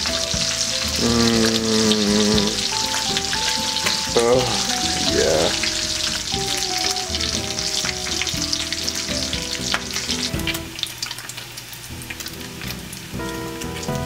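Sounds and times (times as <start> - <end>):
bacon sizzling and popping: 0.0 - 14.0.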